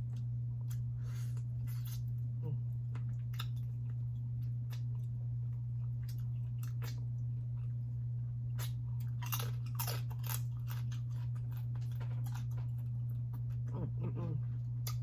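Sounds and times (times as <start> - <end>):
crunching and wet chewing of crab: 0.0 - 13.7
steady low hum: 0.0 - 15.0.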